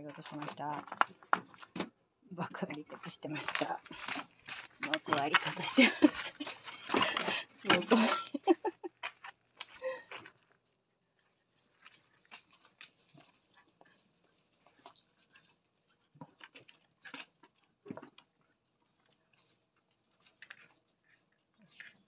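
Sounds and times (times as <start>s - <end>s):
puppies scuffling on dirt: 0.0s - 22.0s.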